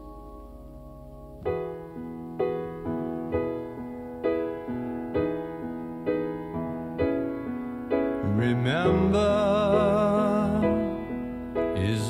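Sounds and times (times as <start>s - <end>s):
slow piano notes: 0.0s - 12.0s.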